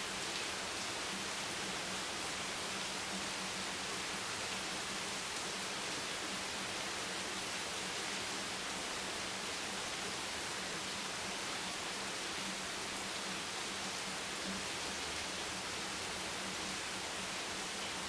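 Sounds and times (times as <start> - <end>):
rain hiss: 0.0 - 18.0.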